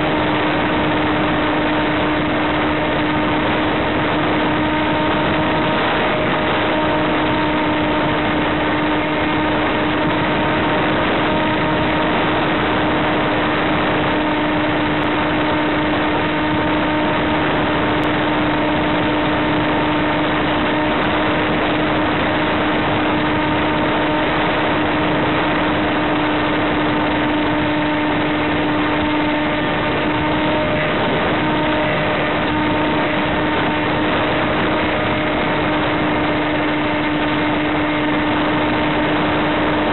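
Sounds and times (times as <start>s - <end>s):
electric motor whine: 0.0s - 39.9s.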